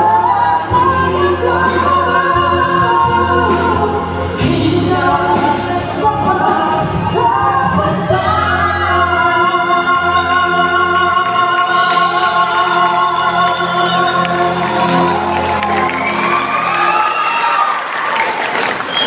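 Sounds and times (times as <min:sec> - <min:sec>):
instrumental backing with bass: 0:00.0 - 0:17.1
voices singing ballad: 0:00.0 - 0:17.1.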